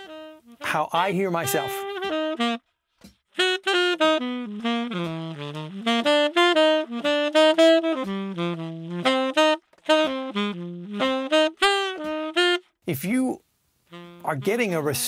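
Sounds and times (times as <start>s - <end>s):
tenor saxophone melody: 0.0s - 15.0s.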